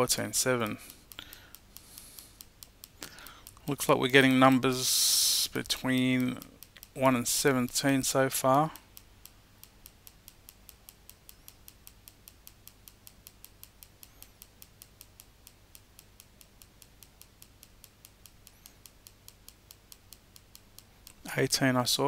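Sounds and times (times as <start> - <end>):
mouse button clicking rapidly: 0.6 - 21.2.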